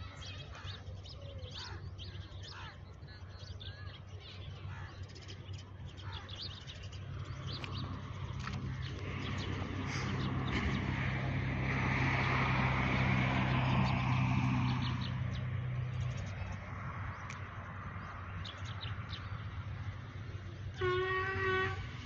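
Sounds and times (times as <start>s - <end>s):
small birds chirping: 0.0s - 11.1s, 13.5s - 20.5s
vehicle engine hum passing: 4.0s - 22.0s.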